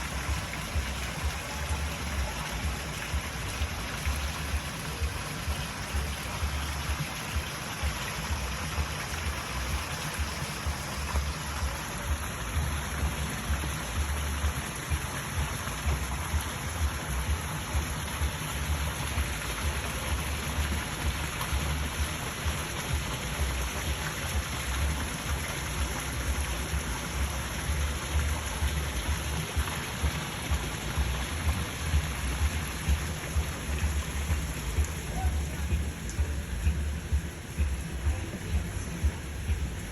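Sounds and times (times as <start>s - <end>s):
falling water patter: 0.0s - 39.9s
low uneven rumble: 0.0s - 39.9s.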